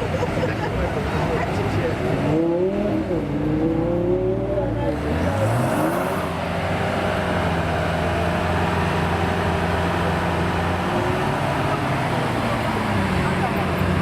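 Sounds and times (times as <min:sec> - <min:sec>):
car engine under power: 0:01.2 - 0:14.0.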